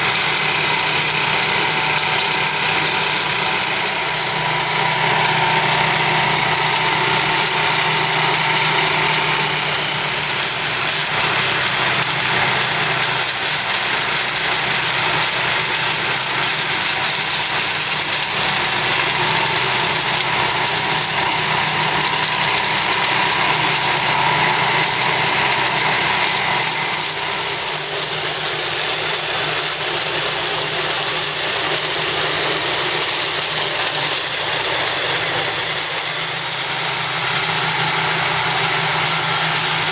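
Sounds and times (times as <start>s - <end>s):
flail mower engine running: 0.0s - 39.9s
grass cutting rushing noise: 0.0s - 39.9s.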